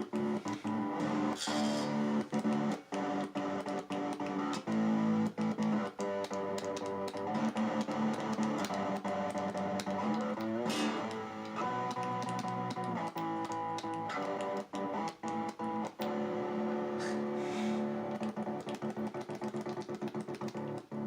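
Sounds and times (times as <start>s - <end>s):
stuttering electric guitar chords: 0.0s - 21.0s.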